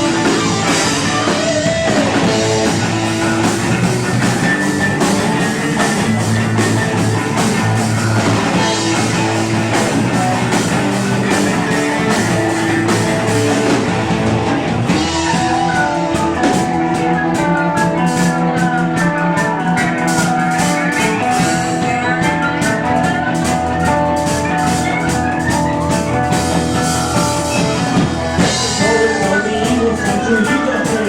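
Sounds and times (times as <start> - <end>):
drum kit beat on cymbals: 0.0 - 31.0
gliding electric guitars: 0.0 - 31.0.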